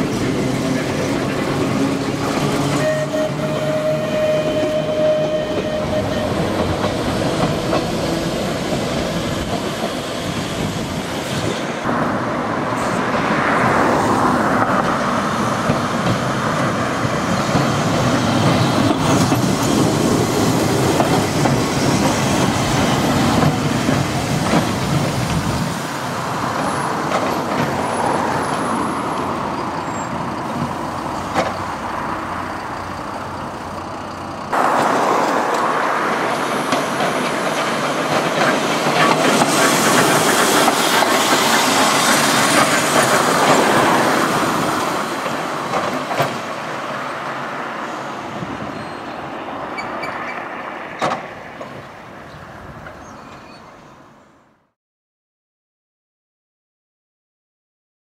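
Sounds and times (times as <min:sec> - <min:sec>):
electric tram approaching: 0:00.0 - 0:54.4
tram rolling past: 0:00.0 - 0:54.4.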